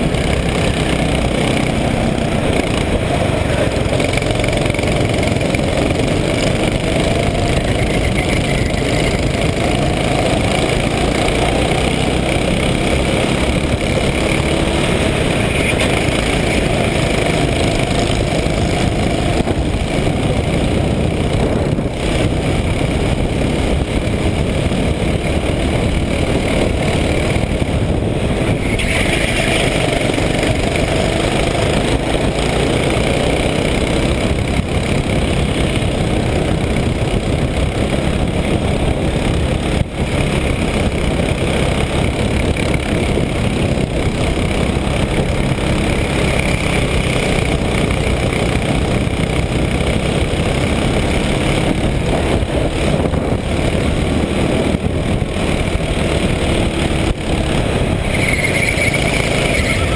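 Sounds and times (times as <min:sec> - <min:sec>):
kart engine running at speed: 0:00.0 - 0:59.9.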